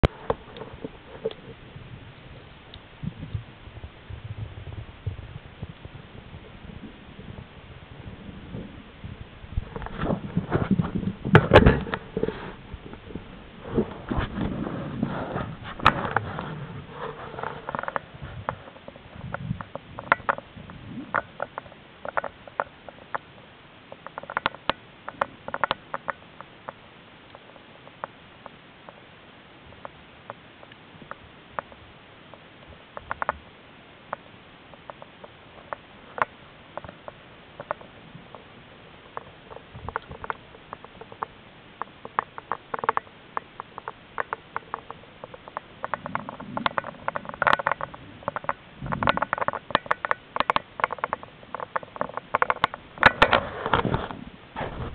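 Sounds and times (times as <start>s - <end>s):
underwater clicks and ticks: 0.0s - 3.5s, 4.1s - 29.1s, 29.7s - 54.9s.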